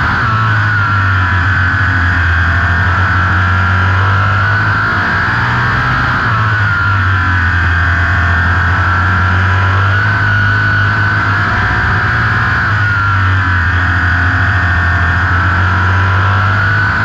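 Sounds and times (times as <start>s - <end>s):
race car engine running hard: 0.0s - 17.0s.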